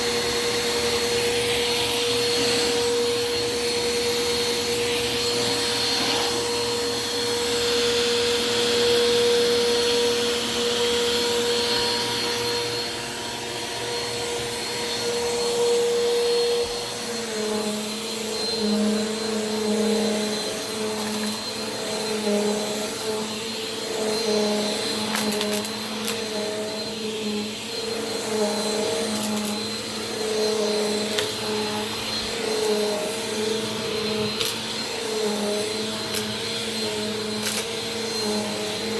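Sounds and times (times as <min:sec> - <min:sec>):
vacuum cleaner on carpet: 0:00.0 - 0:38.9.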